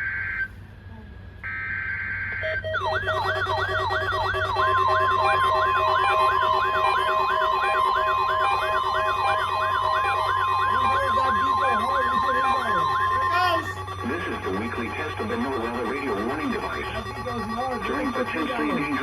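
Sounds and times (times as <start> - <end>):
weather radio siren wails: 1.4 - 19.0
pulsing low tone: 2.4 - 19.0
steady high tone: 2.4 - 19.0.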